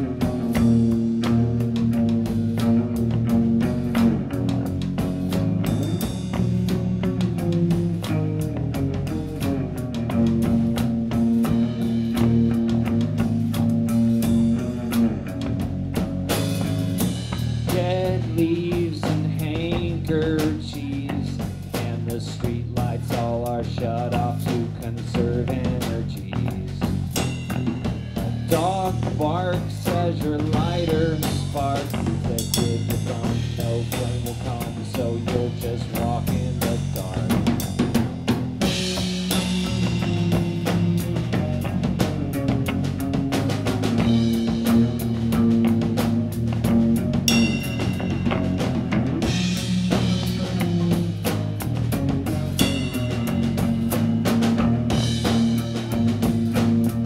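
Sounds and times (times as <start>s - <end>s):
drum kit beat: 0.0s - 57.0s
electric guitars bending notes: 0.0s - 57.0s.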